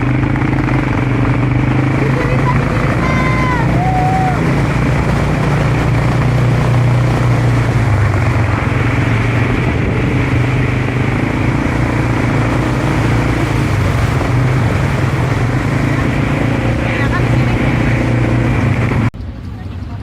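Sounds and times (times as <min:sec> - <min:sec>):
road and wind noise: 0:00.0 - 0:20.0
vehicle engine humming: 0:00.0 - 0:20.0.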